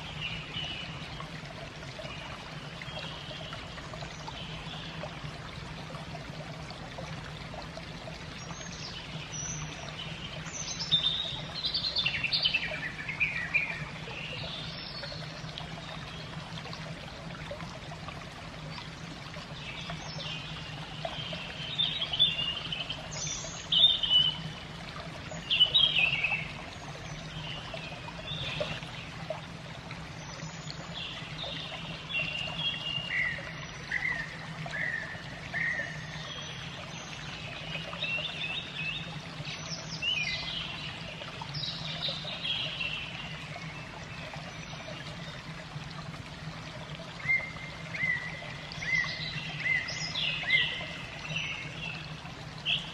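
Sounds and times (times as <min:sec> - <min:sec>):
running water trickling: 0:00.0 - 0:52.9.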